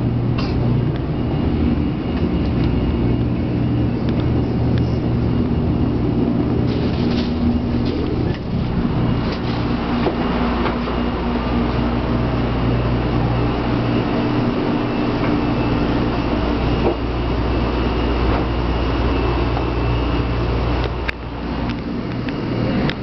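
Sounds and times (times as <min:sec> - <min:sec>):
train equipment hum: 0:00.0 - 0:23.0.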